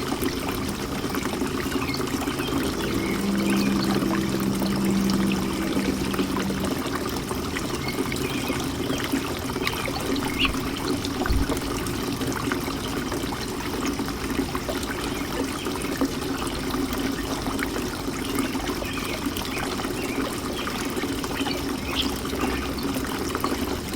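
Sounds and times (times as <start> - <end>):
fountain water trickling: 0.0 - 23.9.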